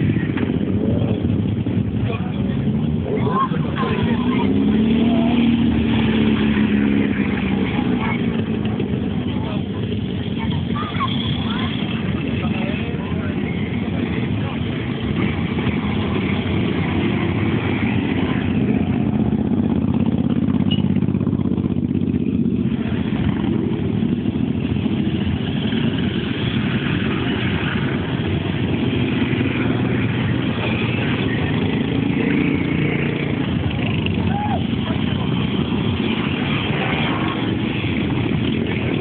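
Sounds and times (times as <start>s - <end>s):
motorcycle engines droning: 0.0s - 39.0s.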